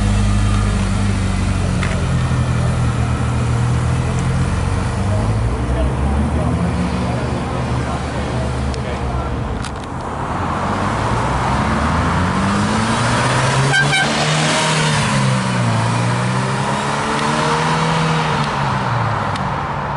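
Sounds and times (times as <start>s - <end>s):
sports car accelerating: 0.0s - 19.9s.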